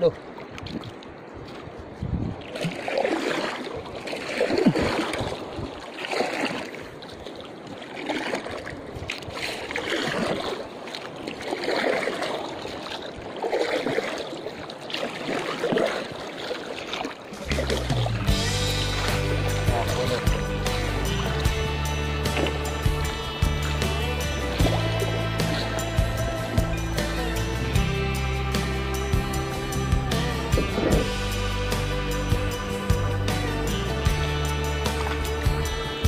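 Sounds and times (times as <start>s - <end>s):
canoe paddle splashing water: 0.0s - 36.0s.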